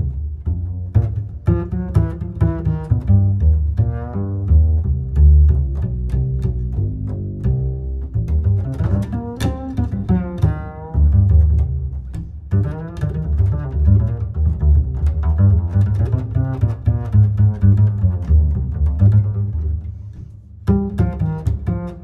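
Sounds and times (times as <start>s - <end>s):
bass line: 0.0s - 22.0s.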